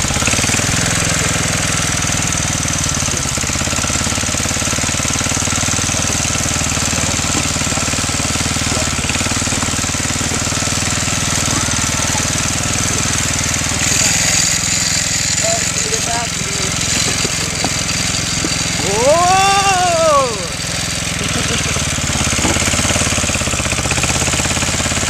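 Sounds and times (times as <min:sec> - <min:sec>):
tractor engine chugging: 0:00.0 - 0:25.0.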